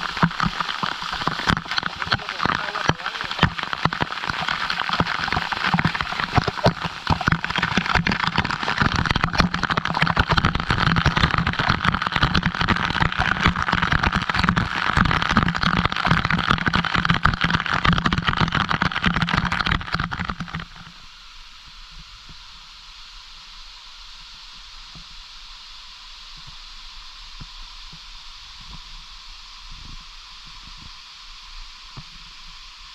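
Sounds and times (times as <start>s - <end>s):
waterfall pouring and splashing: 0.0s - 32.9s.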